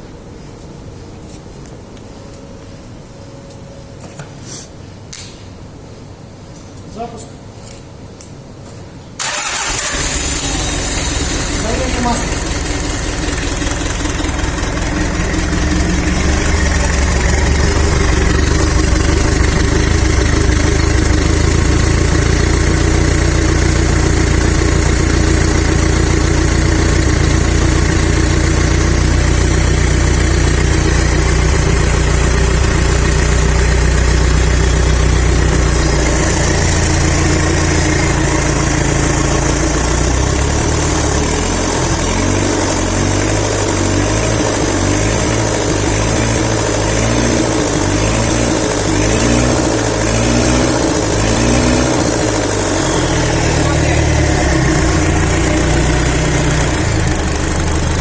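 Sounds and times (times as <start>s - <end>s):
diesel engine idling: 9.2s - 58.0s.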